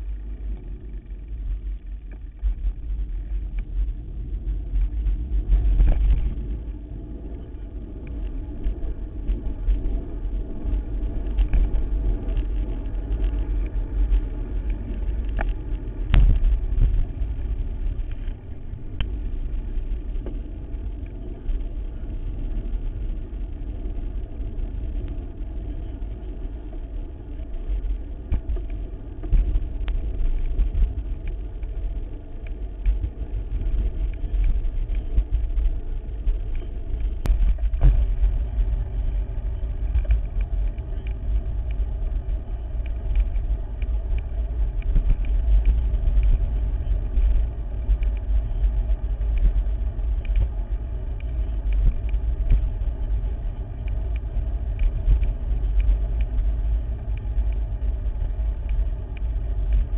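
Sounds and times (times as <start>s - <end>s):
wind rumble on microphone: 0.0s - 59.9s.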